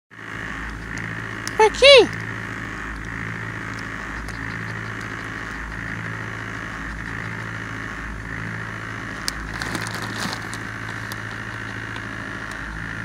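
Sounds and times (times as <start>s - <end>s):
car engine hum: 0.1s - 13.0s
crackling clicks: 0.6s - 7.7s, 9.1s - 12.7s.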